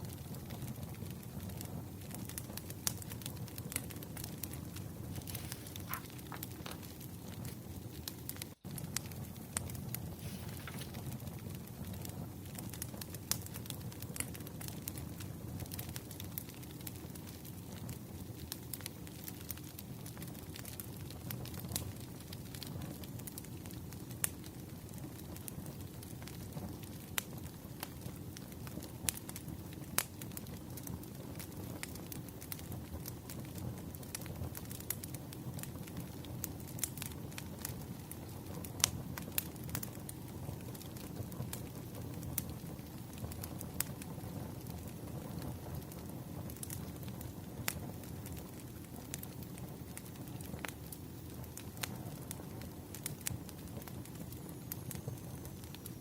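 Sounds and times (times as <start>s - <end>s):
firewood crackling and popping: 0.0s - 56.0s.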